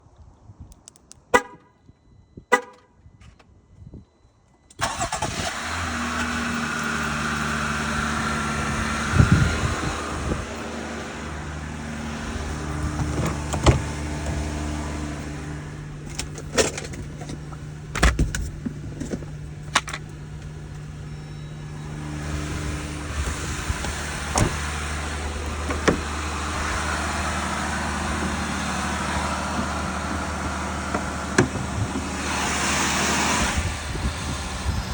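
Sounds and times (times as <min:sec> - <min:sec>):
car engine starting and idling: 0:04.7 - 0:34.9.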